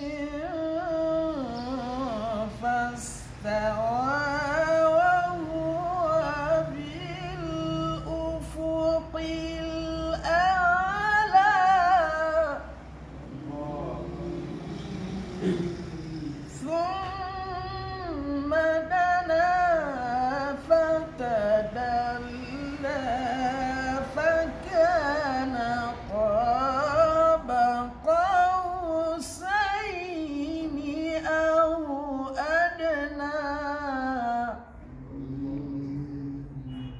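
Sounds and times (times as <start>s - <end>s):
person chanting recitation: 0.0s - 36.9s.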